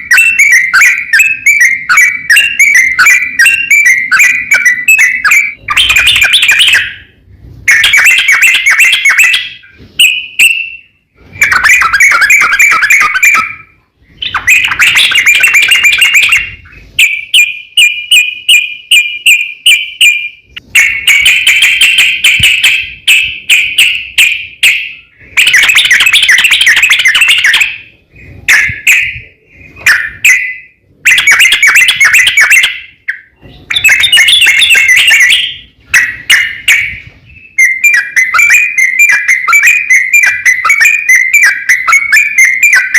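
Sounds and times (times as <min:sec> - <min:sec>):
bird singing rolling song phrases: 0:00.0 - 0:42.9.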